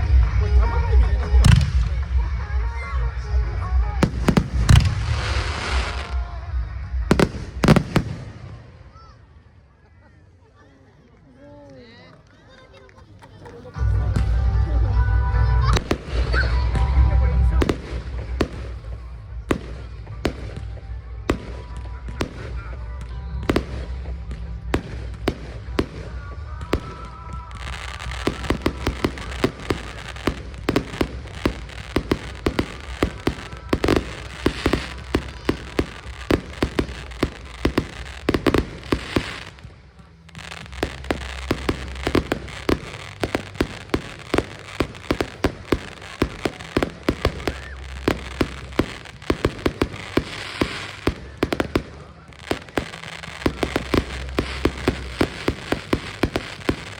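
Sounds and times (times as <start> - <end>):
fireworks crackling pops: 0.0 - 9.2, 15.6 - 56.9.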